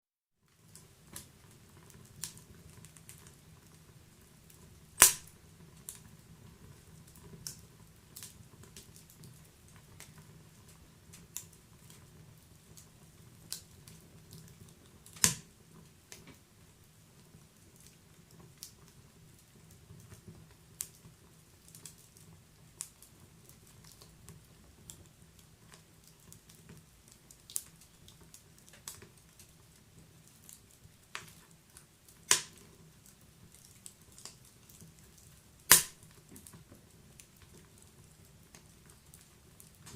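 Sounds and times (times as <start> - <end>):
fire crackling and popping: 0.5 - 39.9
low rumble of flames: 0.5 - 39.9.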